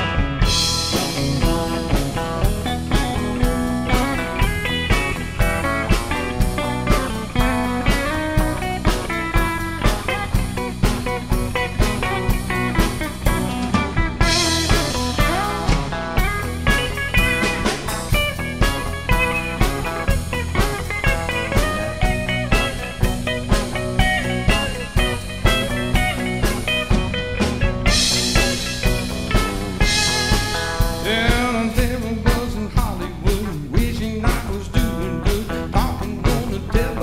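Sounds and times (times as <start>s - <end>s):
electric guitar lines: 0.0s - 32.5s
steady drum beat: 0.0s - 37.0s.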